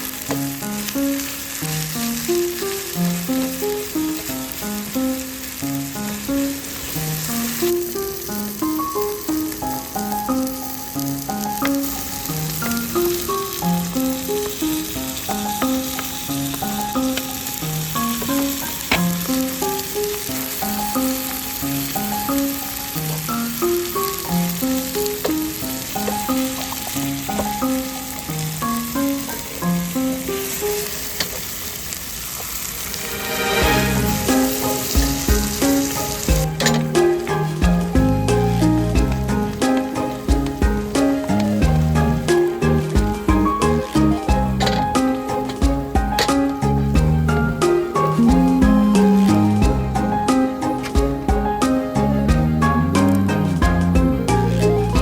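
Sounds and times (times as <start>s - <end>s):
background music melody: 0.0s - 55.0s
food sizzling in a pan: 0.0s - 55.0s.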